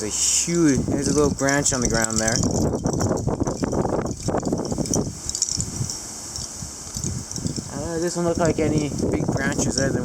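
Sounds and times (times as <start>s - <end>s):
wind rumble on microphone: 0.0s - 10.0s
wind rustling tree leaves: 0.0s - 10.0s.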